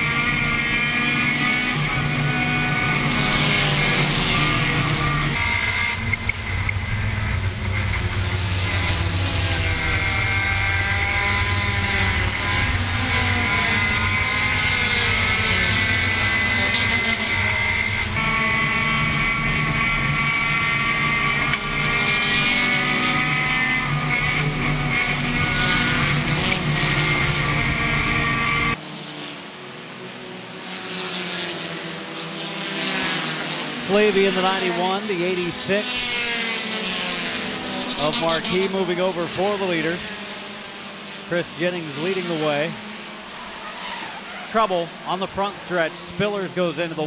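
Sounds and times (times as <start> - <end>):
race car engine: 0.0 - 47.0
wind and road noise: 0.0 - 47.0.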